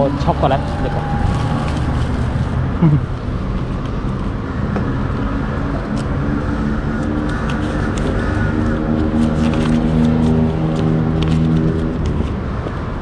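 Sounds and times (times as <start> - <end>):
road traffic rumble: 0.0 - 13.0
vehicle engines running: 0.0 - 13.0.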